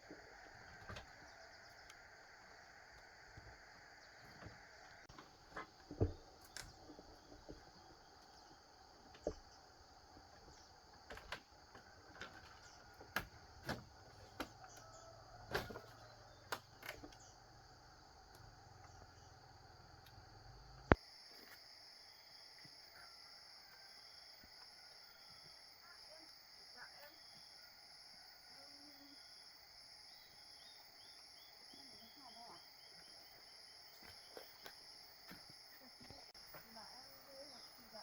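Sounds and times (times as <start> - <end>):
faint insect drone: 0.0 - 38.0.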